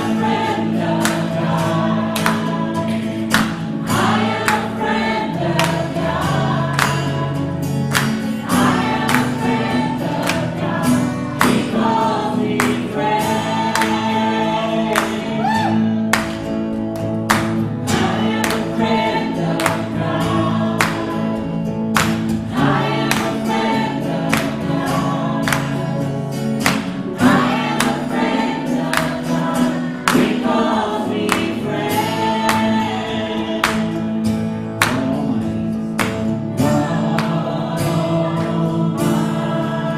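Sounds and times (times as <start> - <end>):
choir and congregation singing: 0.0 - 39.9.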